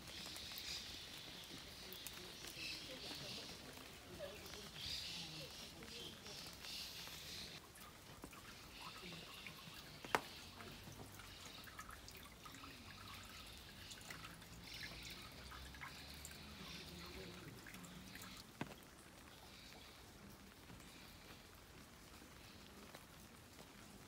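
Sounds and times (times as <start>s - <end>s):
water trickling into stone trough: 0.0s - 24.0s.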